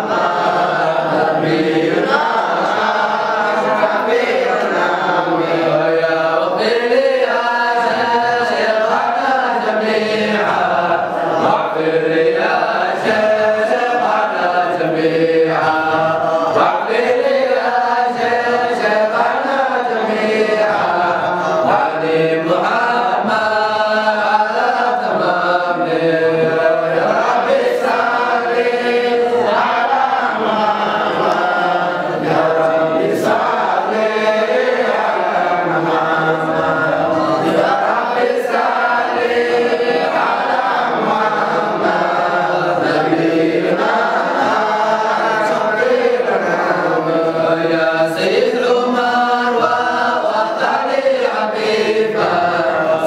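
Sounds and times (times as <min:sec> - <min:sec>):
men chanting together: 0:00.0 - 0:53.0.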